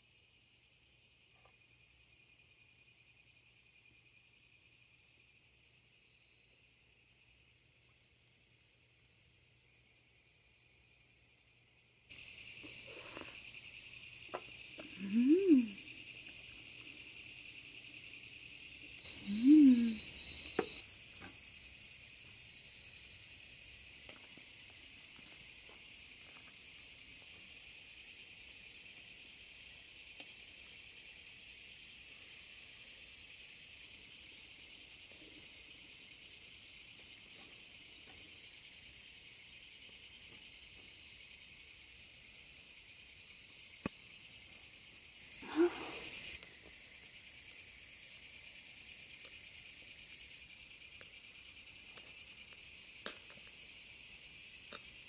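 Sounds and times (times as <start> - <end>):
crickets chirring: 0.0 - 55.0
high insect trill: 0.0 - 55.0.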